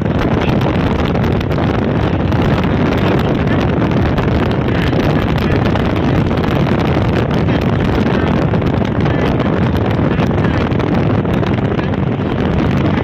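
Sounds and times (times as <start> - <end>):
vehicle road and engine noise: 0.0 - 13.0
wind rushing over microphone: 0.0 - 13.0.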